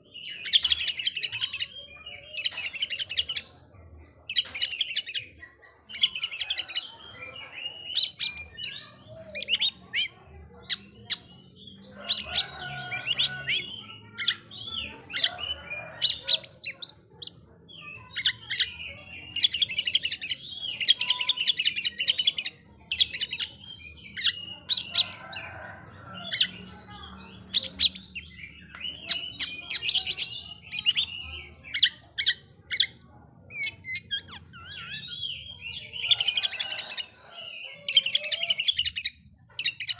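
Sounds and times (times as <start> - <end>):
songbird whistling and chattering: 0.1 - 3.6, 5.9 - 25.6, 27.2 - 39.9.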